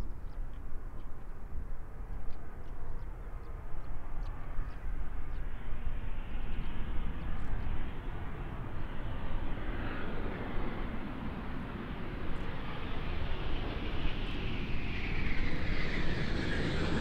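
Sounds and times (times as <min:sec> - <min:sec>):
low jet rumble: 0:00.1 - 0:17.0.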